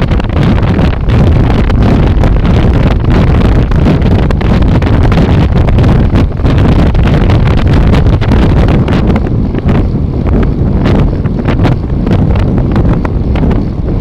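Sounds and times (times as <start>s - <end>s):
road rumble: 0.0s - 14.0s
wind buffeting microphone: 0.0s - 14.0s.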